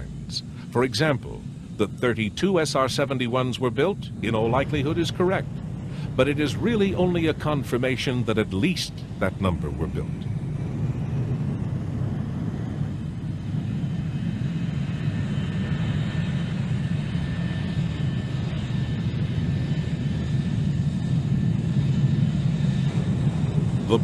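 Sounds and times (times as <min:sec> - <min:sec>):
high jet whine: 0:00.0 - 0:24.0
jet engine low rumble: 0:00.0 - 0:24.0.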